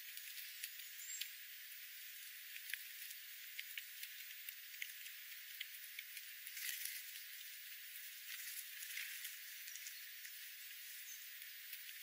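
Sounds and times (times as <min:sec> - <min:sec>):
birds pecking seed on gravel: 0:00.0 - 0:12.0
steady hiss: 0:00.0 - 0:12.0.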